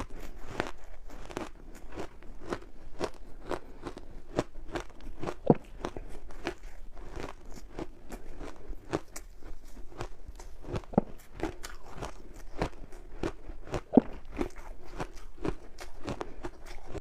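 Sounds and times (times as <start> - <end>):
ice being bitten and chewed: 0.0 - 17.0.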